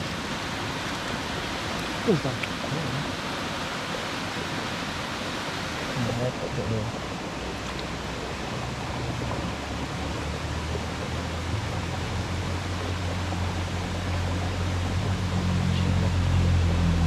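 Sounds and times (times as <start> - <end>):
low engine hum: 0.0 - 17.0
stream water rushing: 0.0 - 17.0.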